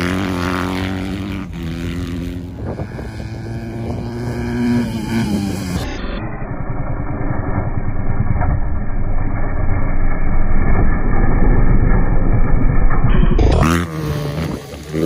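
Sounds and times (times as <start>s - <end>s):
dirt bike engine passing by: 0.0s - 15.0s.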